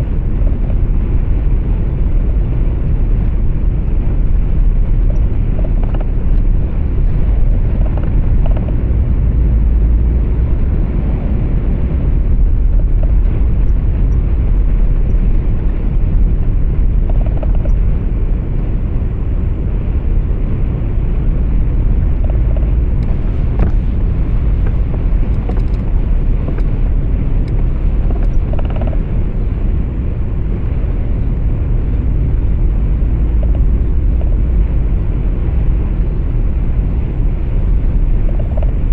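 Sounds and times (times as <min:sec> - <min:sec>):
truck engine and tyres rumbling: 0:00.0 - 0:38.9.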